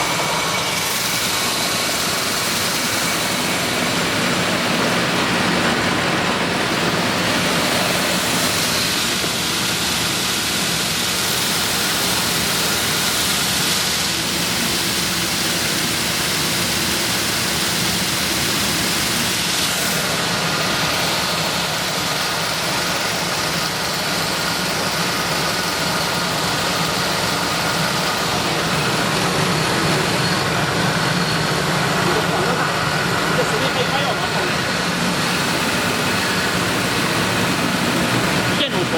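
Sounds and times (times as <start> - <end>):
rice milling machine running: 0.0 - 38.9.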